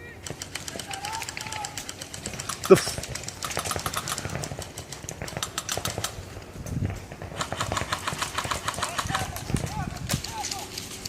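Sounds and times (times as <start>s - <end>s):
airsoft guns firing: 0.0s - 11.0s.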